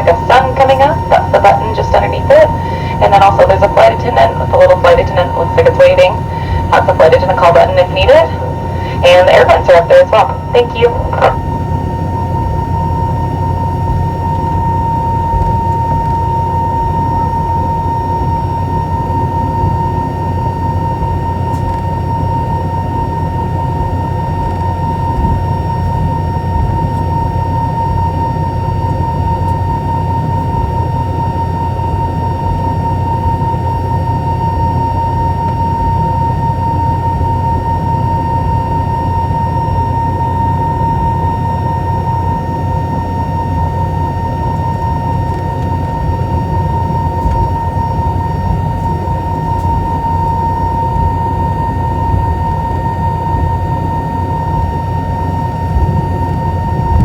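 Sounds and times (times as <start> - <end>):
airplane cabin rumble: 0.0 - 20.0, 29.0 - 57.0
high jet engine whine: 0.0 - 57.0.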